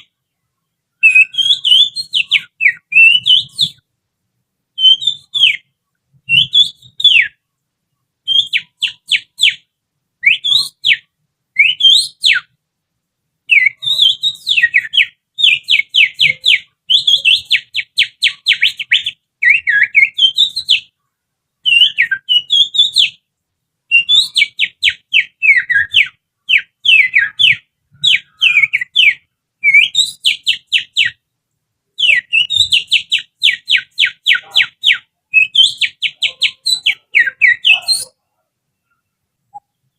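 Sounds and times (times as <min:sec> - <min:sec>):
finger whistle imitating birdsong: 0:01.0 - 0:03.8, 0:04.8 - 0:07.4, 0:08.2 - 0:12.6, 0:13.5 - 0:20.9, 0:21.6 - 0:23.2, 0:23.9 - 0:31.2, 0:32.0 - 0:38.2.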